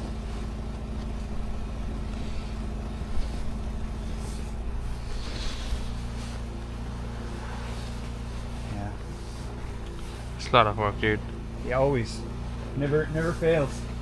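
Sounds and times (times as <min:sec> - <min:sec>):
snowblower engine running: 0:00.0 - 0:14.0.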